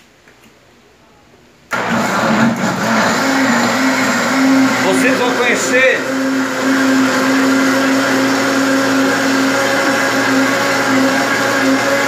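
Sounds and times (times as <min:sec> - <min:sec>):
blender running: 0:01.7 - 0:12.0.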